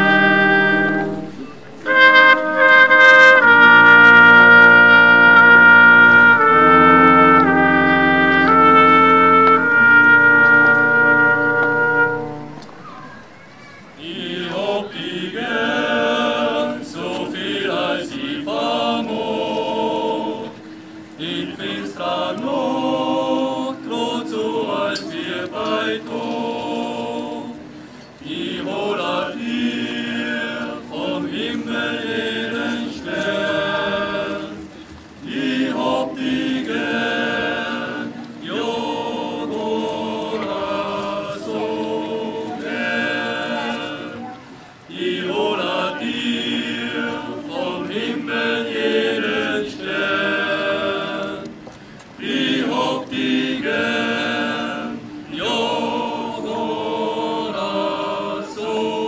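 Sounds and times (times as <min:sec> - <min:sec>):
group singing in harmony: 0:00.0 - 0:12.9, 0:14.0 - 0:59.0.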